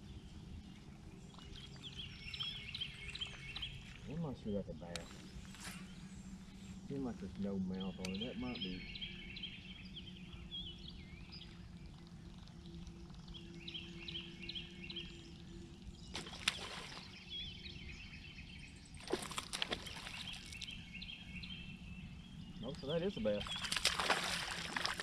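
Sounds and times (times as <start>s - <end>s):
birds chirping: 0.0s - 25.0s
low steady hum: 0.0s - 25.0s.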